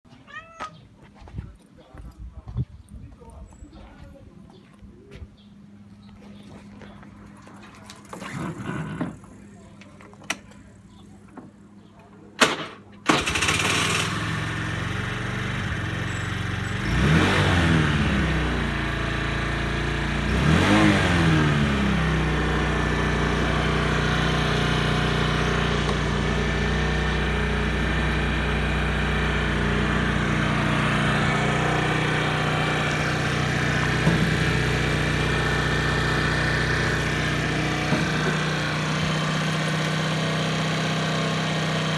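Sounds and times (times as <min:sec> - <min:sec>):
scooter engine starting and idling: 0:06.4 - 0:11.8, 0:12.4 - 0:41.9.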